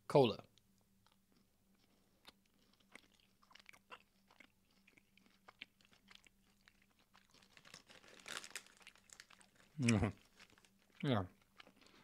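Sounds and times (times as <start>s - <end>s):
chewing gummy candies: 1.0s - 12.0s.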